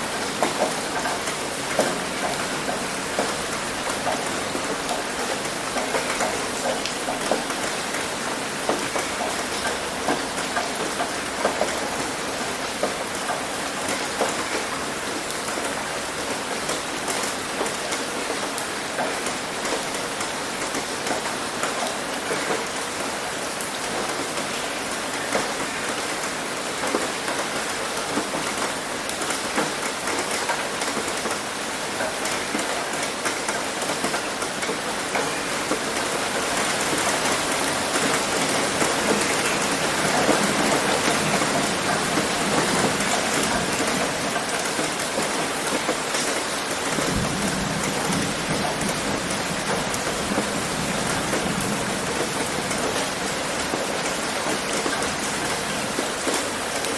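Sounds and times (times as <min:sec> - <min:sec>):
heavy rain on a roof: 0:00.0 - 0:56.9.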